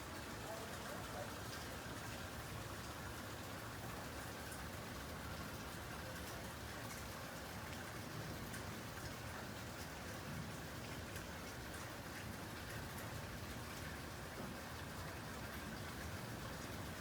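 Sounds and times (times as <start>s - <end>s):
raindrops ticking on surfaces: 0.0s - 17.0s
steady rain falling: 0.0s - 17.0s.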